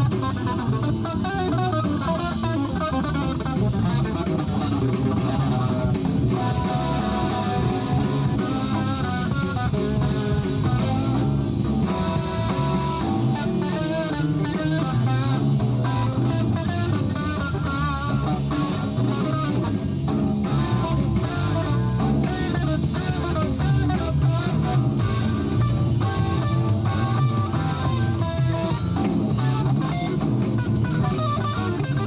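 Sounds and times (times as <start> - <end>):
guitar-led instrumental music: 0.0 - 32.0.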